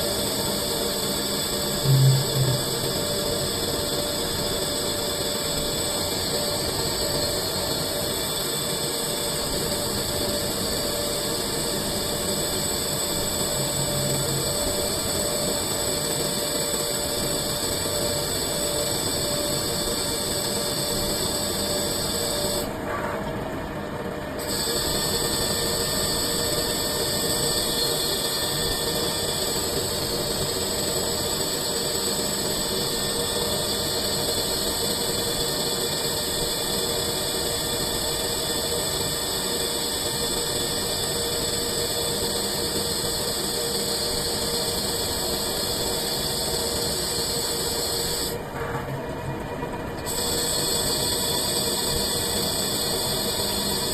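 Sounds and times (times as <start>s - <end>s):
lathe machining noise: 0.0s - 53.9s.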